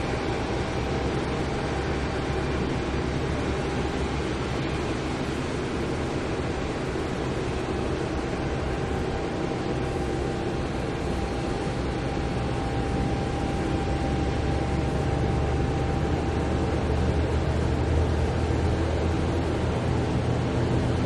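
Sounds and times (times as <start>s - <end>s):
jet engine rumble: 0.0s - 21.0s.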